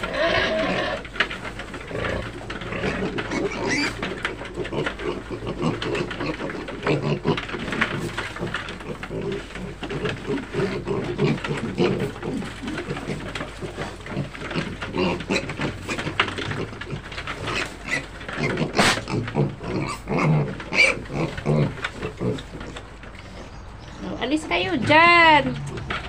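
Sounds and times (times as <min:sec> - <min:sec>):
piglets chomping feed: 0:00.0 - 0:26.0
piglets grunting: 0:00.0 - 0:26.0.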